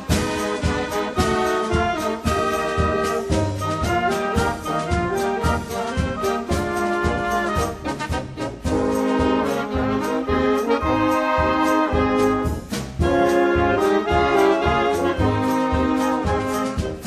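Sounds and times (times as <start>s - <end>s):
brass band playing chords: 0.0s - 17.0s.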